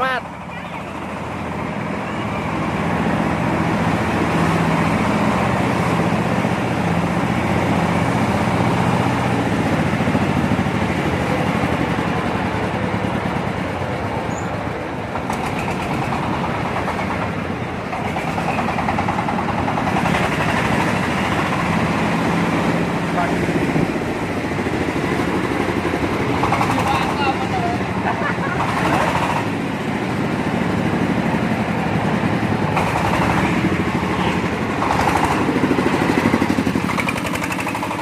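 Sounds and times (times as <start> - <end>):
engine humming: 0.0 - 38.0.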